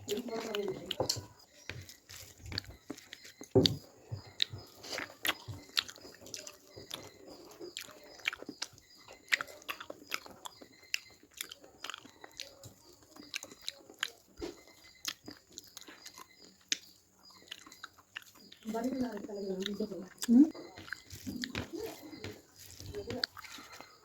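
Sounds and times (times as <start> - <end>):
crunching bites and chewing: 0.1 - 18.7, 19.6 - 24.0.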